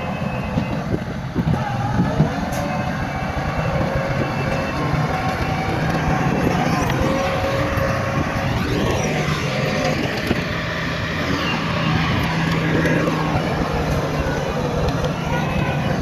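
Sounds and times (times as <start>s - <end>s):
heavy machinery diesel engines: 0.0s - 16.0s.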